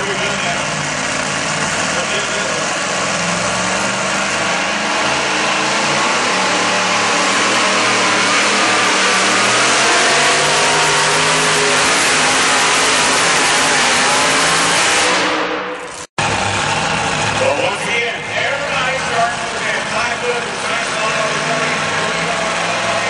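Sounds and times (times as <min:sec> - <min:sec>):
supercharged engine blaring: 0:00.0 - 0:23.0.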